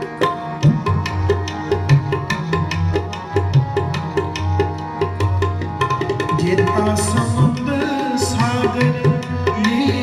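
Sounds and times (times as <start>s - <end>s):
tabla playing quick rhythm: 0.0s - 10.0s.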